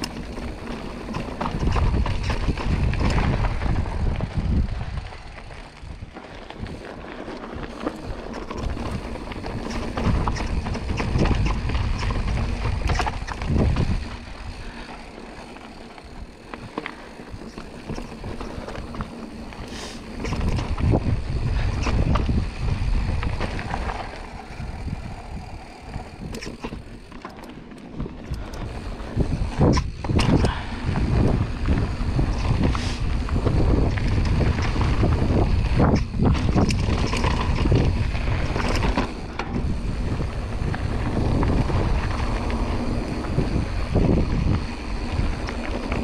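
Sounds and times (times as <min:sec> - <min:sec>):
bike clicks and rattles: 0:00.0 - 0:46.0
bike tyres on dirt: 0:00.0 - 0:46.0
wind rumbling on microphone: 0:00.0 - 0:46.0.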